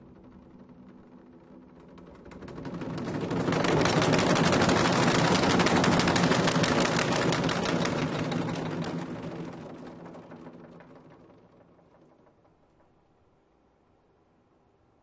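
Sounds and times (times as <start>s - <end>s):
fast drum roll: 0.0s - 13.0s.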